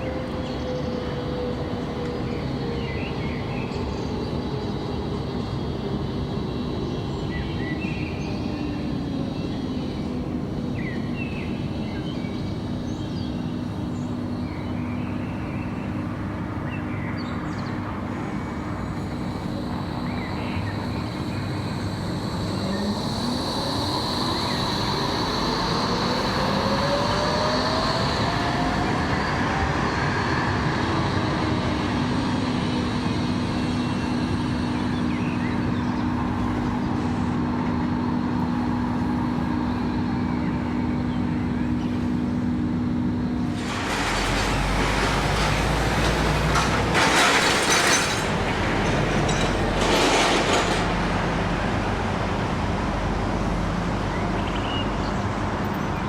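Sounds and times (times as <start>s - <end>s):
tram traction drive whine: 0.0s - 56.0s.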